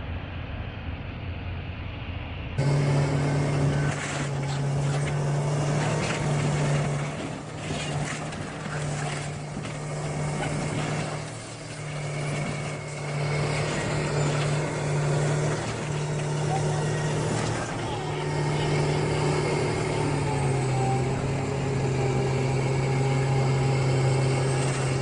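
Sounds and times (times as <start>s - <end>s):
heavy machine engine running: 0.0s - 25.0s
knocks and clanks: 2.6s - 25.0s.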